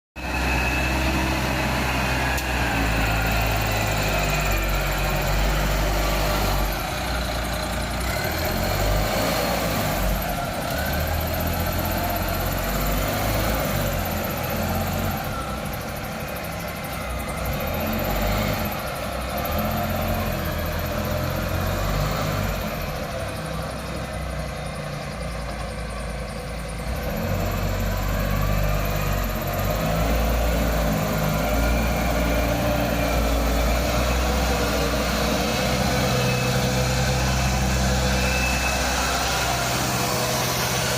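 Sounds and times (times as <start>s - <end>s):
forklift engine running: 0.2s - 40.9s.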